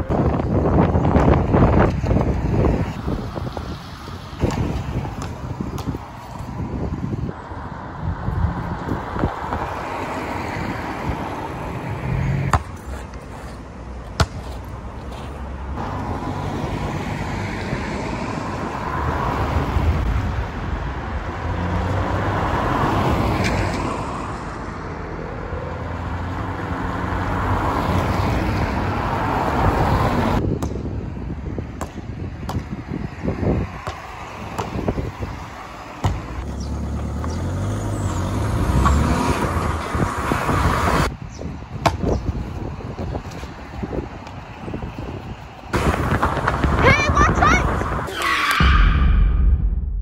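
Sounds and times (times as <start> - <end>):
cars passing on wet road: 0.7 - 30.4, 32.8 - 41.1, 43.4 - 48.7.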